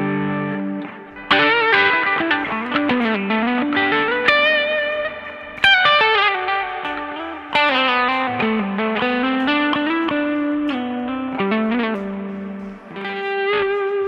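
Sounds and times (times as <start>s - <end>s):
overdriven electric guitar lead: 0.0s - 14.0s.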